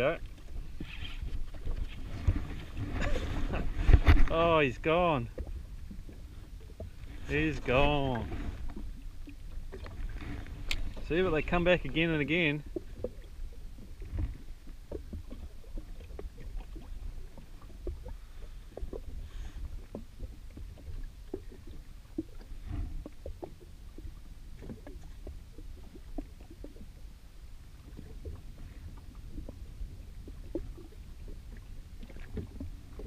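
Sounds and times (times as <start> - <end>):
waves lapping against hull: 0.0 - 33.0.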